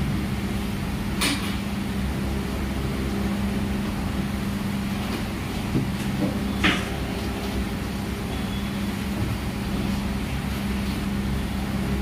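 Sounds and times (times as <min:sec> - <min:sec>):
mechanical hum of equipment: 0:00.0 - 0:12.0.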